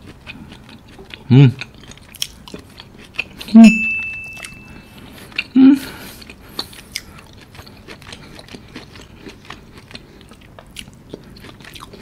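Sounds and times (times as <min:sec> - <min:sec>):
person chewing with wet smacks: 0:00.0 - 0:03.6, 0:04.4 - 0:12.0.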